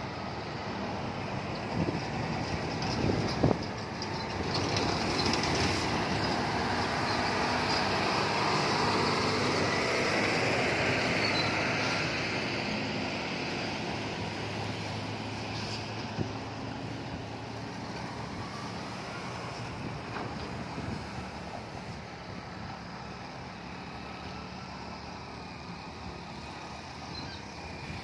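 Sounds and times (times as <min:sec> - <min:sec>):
diesel trucks passing: 0:00.0 - 0:28.0.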